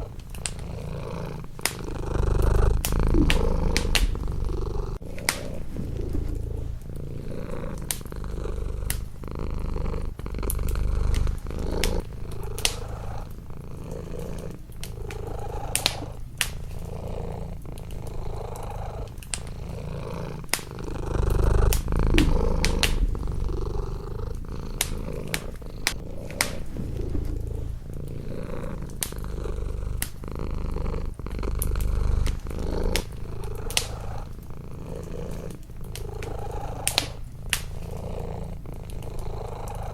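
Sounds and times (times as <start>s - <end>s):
wood fire crackling and popping: 0.0s - 39.7s
cat purring: 0.0s - 39.9s.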